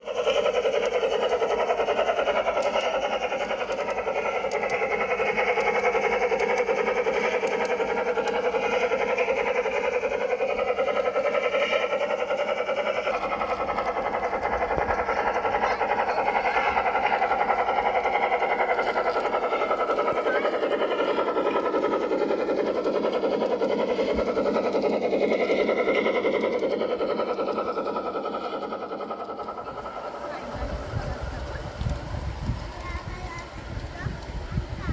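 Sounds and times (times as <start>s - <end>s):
fast wheel rattle: 0.0s - 34.9s
model train motor hum: 0.0s - 34.9s.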